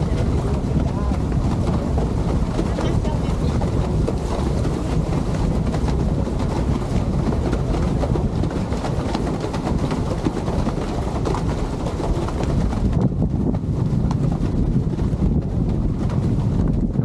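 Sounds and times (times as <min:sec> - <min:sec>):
boat engine low rumble: 0:00.0 - 0:17.0
wind buffeting microphone: 0:00.0 - 0:17.0.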